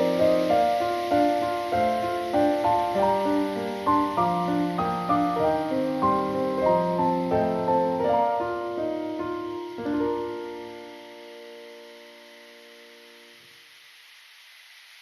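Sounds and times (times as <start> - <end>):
piano music: 0.0 - 13.4.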